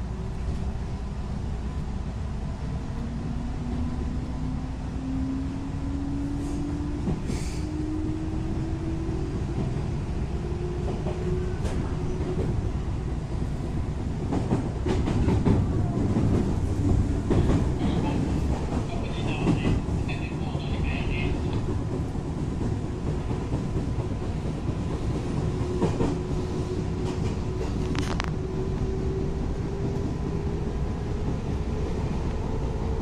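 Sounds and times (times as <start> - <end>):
train running noise: 0.0 - 33.0.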